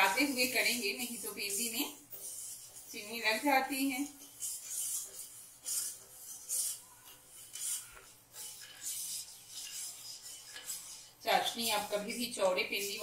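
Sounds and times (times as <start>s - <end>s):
spoon scraping pot bottom: 0.0s - 13.0s.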